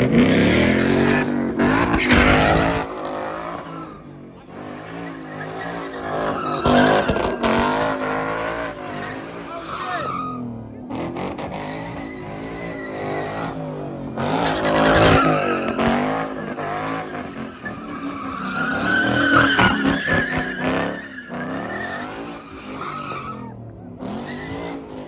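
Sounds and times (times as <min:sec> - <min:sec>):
car engine revving hard: 0:00.0 - 0:10.1, 0:10.9 - 0:25.0
tyres squealing and skidding: 0:00.0 - 0:25.0.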